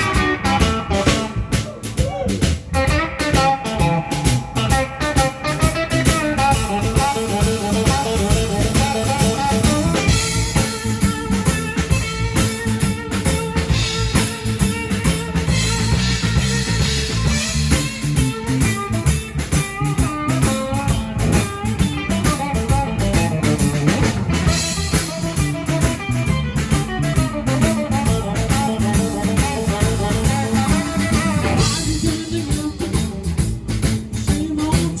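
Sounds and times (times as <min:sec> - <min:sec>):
blues band playing: 0:00.0 - 0:35.0
drum kit: 0:00.0 - 0:35.0
guitar: 0:00.0 - 0:35.0.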